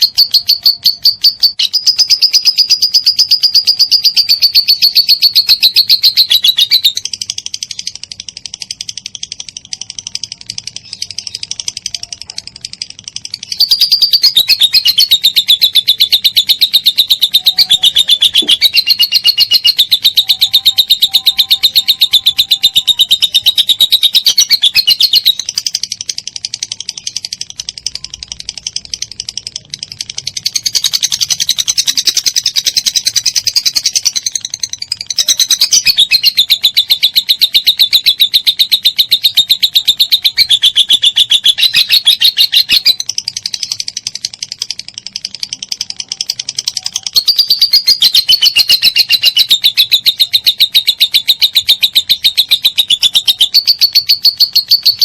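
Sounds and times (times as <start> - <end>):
lovebird chattering trill: 0.0 - 55.0.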